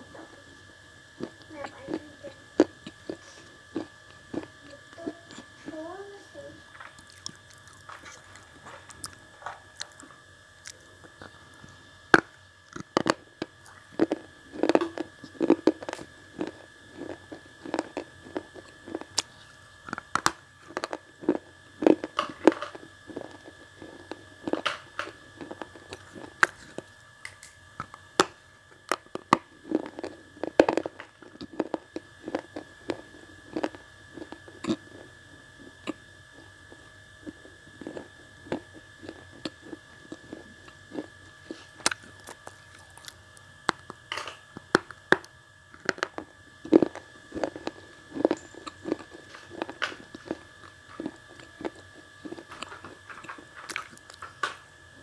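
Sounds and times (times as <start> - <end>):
crunchy chewing: 0.4 - 5.6, 6.7 - 54.6.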